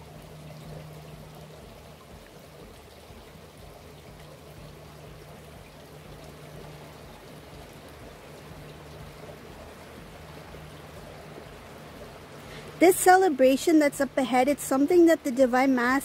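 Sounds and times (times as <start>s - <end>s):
faint low hum: 0.0s - 16.0s
steady rushing noise: 0.0s - 16.0s.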